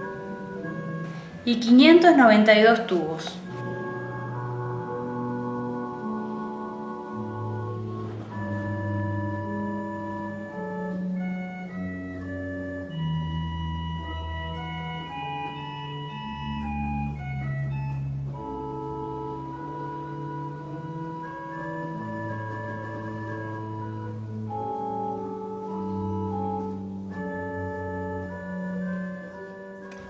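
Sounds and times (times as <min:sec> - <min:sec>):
pipe organ chords: 0:00.0 - 0:01.4, 0:03.4 - 0:30.0.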